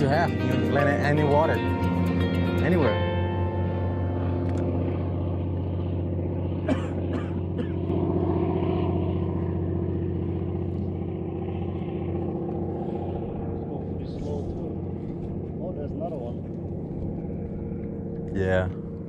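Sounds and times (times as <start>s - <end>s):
engine humming steadily: 0.0s - 19.0s.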